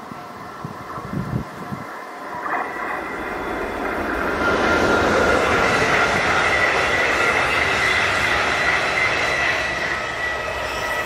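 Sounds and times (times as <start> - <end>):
high-pitched train whine: 0.0 - 11.0
train wheels rolling on rail: 0.0 - 11.0.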